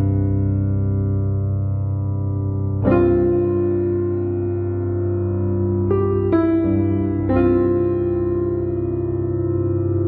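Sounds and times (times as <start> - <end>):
keyboard chords: 0.0 - 10.0.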